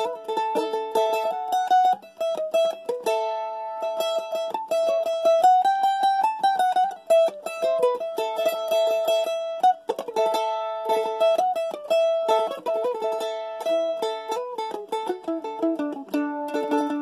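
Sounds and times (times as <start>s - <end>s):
mandolin picking a melody: 0.0s - 17.0s.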